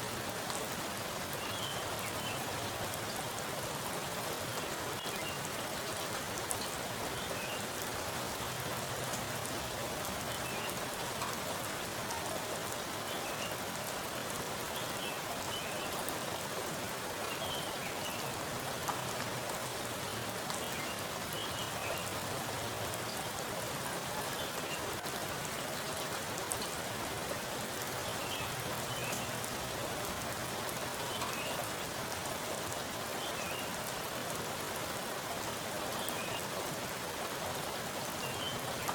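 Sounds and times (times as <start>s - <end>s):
heavy rain on standing water: 0.0s - 38.9s
raindrops splashing: 0.0s - 38.9s.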